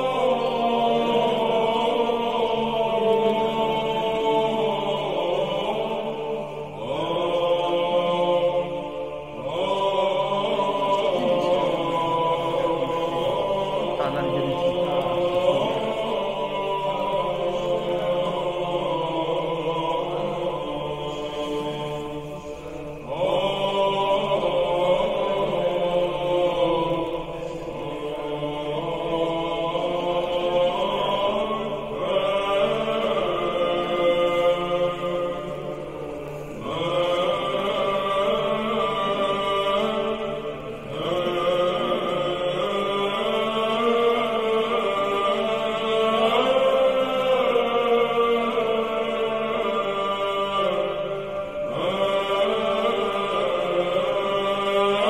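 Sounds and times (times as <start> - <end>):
slow choral chant: 0.0 - 55.0.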